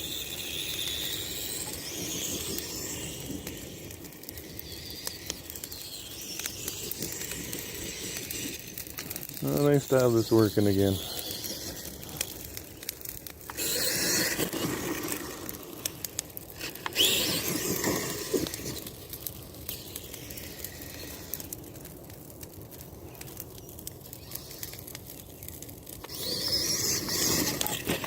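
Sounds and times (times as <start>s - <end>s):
electric motors whining: 0.0s - 21.7s, 26.0s - 28.0s
tyres scraping and clicking: 0.3s - 22.0s, 23.2s - 28.0s.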